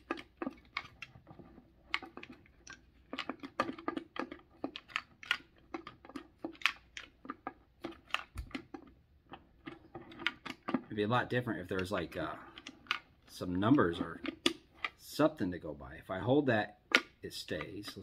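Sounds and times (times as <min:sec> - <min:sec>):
wooden bars clicking and knocking: 0:00.0 - 0:15.0, 0:16.8 - 0:18.0.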